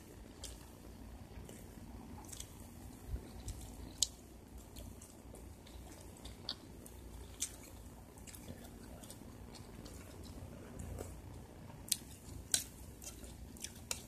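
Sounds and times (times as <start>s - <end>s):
chewing: 0.3s - 14.0s.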